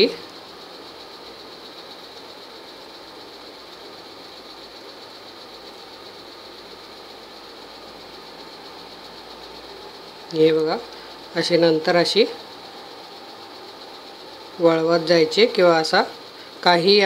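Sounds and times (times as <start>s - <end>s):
mechanical hum with high hiss: 0.0s - 17.0s.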